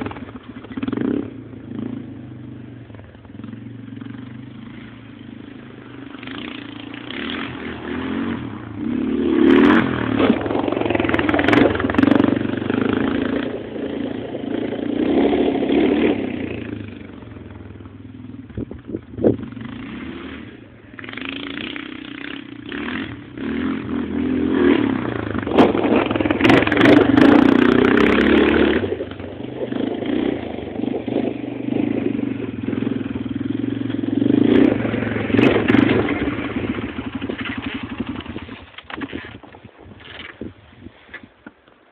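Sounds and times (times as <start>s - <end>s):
atv engine revving: 0.0s - 40.4s.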